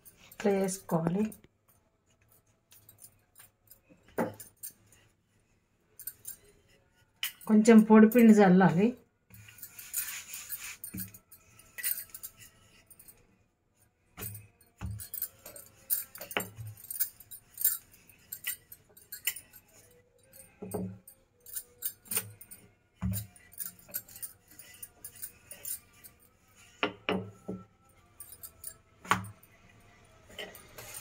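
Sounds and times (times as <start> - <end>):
bangles jingling: 0.0 - 5.1, 5.9 - 31.0.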